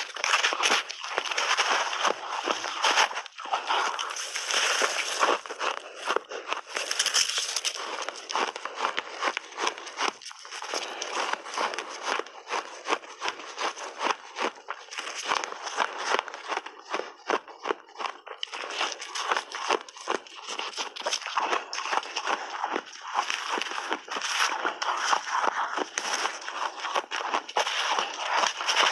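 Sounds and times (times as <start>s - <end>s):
shaved ice being chewed: 0.0s - 28.9s.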